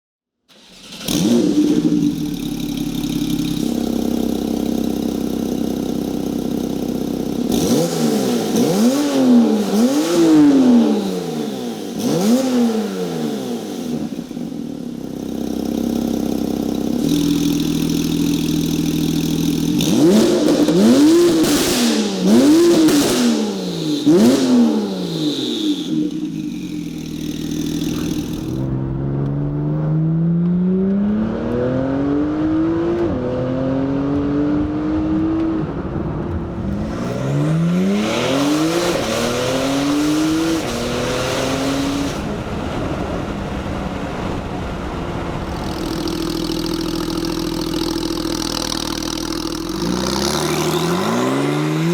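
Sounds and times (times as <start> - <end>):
sports car engine revving: 0.5 - 51.9.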